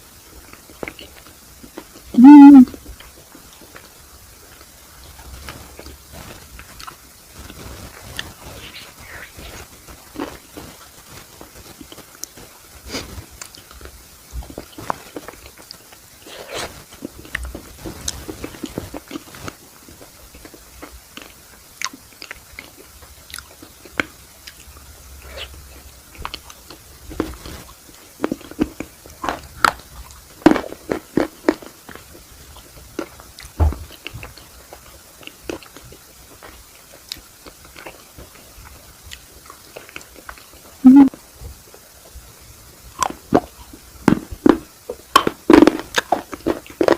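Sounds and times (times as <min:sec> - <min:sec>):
chewing ice cream cone: 0:00.4 - 0:02.1, 0:04.5 - 0:40.8, 0:42.9 - 0:46.9.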